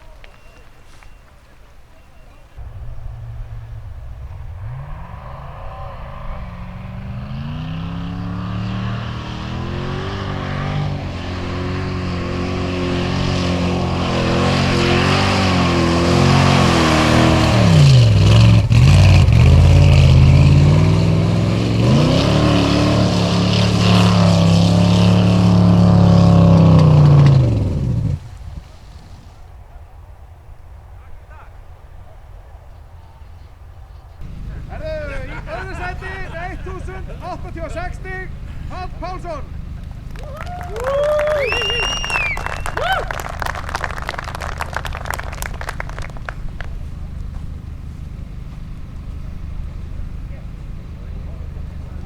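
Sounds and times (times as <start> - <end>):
offroad car engine revving: 0.0 - 52.0.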